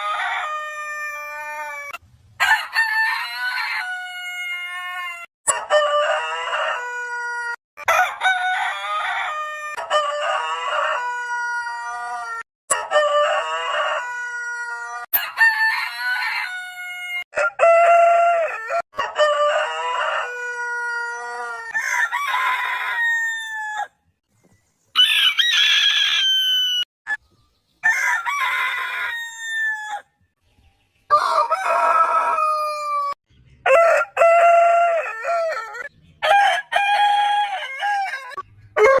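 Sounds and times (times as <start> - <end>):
roosters crowing: 0.0 - 24.0, 25.0 - 26.9, 27.8 - 30.1, 31.1 - 39.0.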